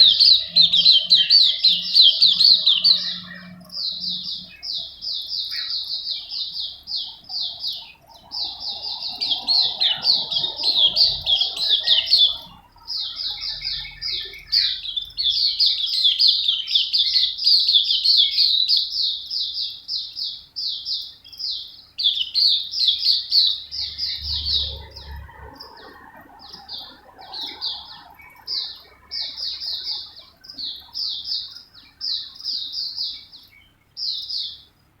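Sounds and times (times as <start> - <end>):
small bird chirping: 0.0 - 35.0.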